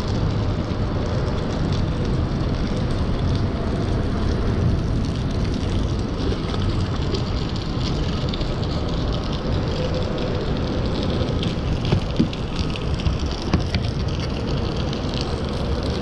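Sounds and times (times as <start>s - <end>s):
rushing rumbling noise: 0.0s - 16.0s.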